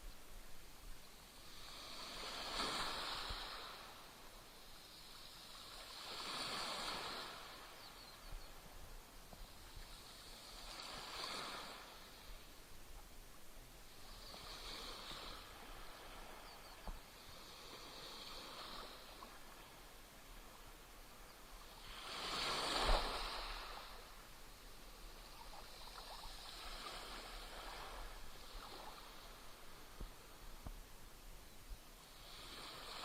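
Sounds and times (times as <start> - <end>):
small waves splashing on shore: 0.1 - 31.2, 31.9 - 33.0.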